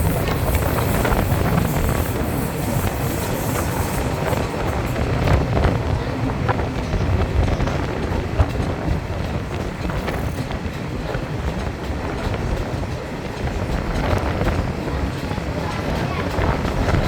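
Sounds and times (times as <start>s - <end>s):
train rumbling on track: 0.0s - 17.0s
wheels clicking over rails: 0.0s - 17.0s.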